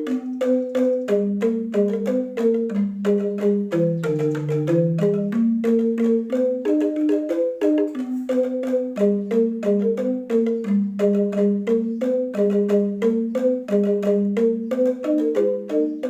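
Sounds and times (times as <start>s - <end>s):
bamboo xylophone played with mallets: 0.0s - 16.0s.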